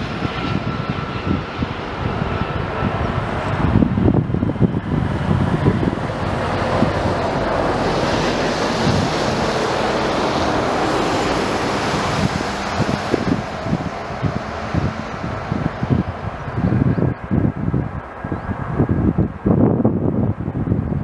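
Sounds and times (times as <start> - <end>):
jet engines rushing: 0.0 - 21.0
wind buffeting microphone: 0.0 - 21.0.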